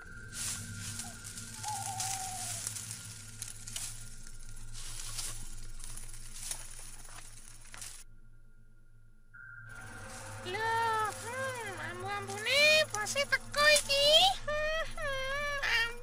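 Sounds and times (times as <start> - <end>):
crackling rustling noise: 0.0 - 8.1, 9.8 - 16.0.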